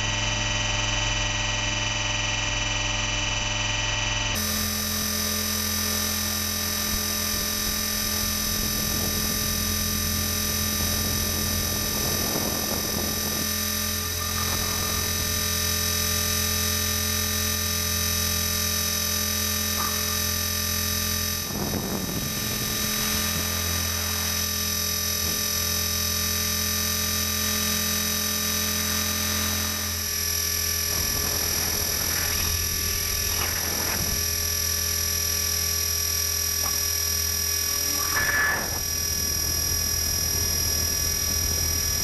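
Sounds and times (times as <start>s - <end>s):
electric motor whine: 0.0s - 42.0s
helicopter rotor hum: 0.0s - 42.0s.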